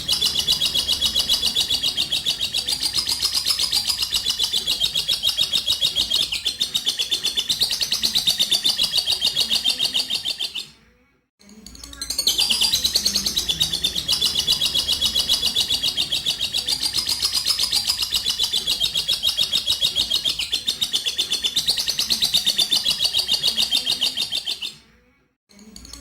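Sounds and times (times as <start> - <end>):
bird chattering trill: 0.0 - 10.6, 12.1 - 24.7.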